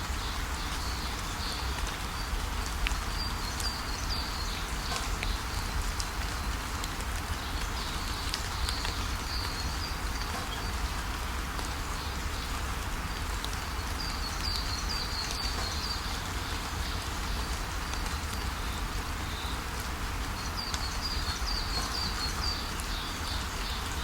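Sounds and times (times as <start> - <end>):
rain hiss: 0.0 - 24.0
small birds chirping: 0.1 - 24.0.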